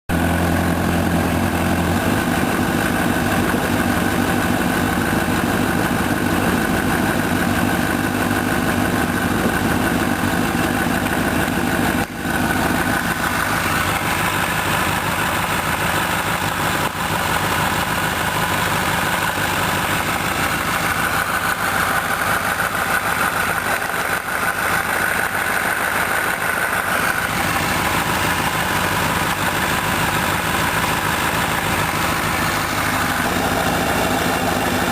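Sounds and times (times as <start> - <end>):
motorcycle engine running: 0.1 - 34.9
rhythmic engine knocking: 0.1 - 34.9.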